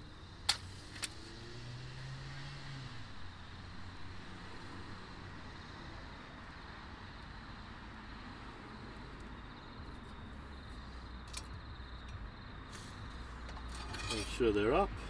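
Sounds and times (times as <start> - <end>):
distant road traffic: 0.0 - 15.0.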